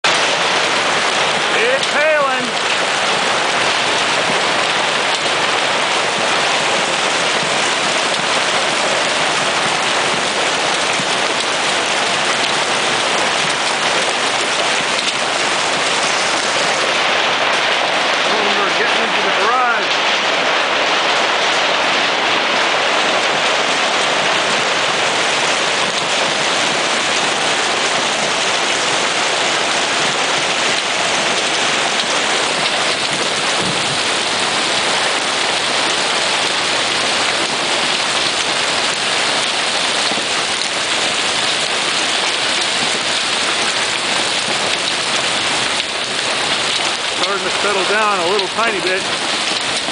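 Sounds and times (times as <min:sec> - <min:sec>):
hailstones pelting the ground: 0:00.1 - 0:49.9.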